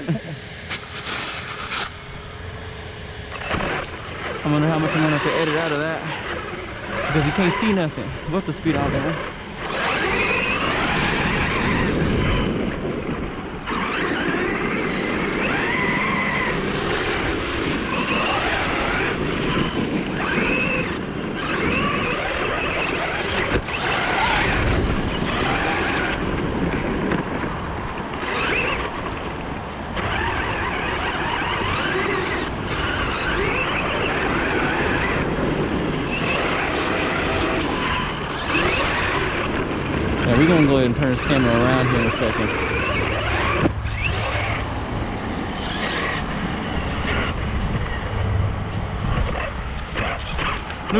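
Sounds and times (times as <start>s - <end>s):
electric motor whining: 0.0s - 50.9s
steady rushing noise: 0.0s - 50.9s.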